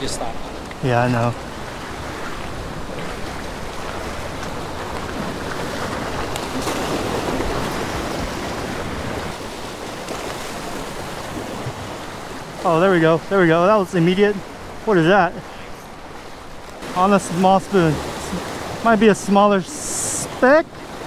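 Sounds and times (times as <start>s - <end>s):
waves breaking against boulders: 0.0s - 21.0s.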